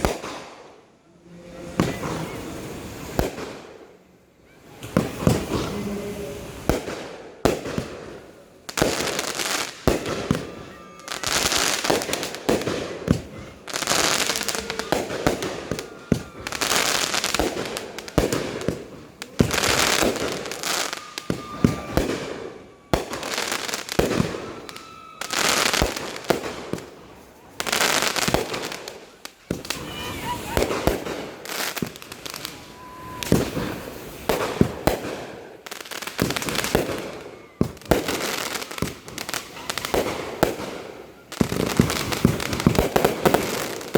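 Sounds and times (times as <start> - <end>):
fireworks bangs and crackling: 0.0 - 0.9, 1.5 - 43.9.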